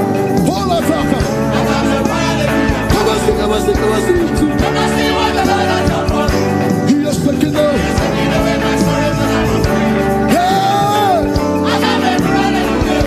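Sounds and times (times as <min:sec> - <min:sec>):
gospel music: 0:00.0 - 0:13.0
steady drum beat: 0:00.0 - 0:13.0
sung vocals: 0:00.0 - 0:13.0.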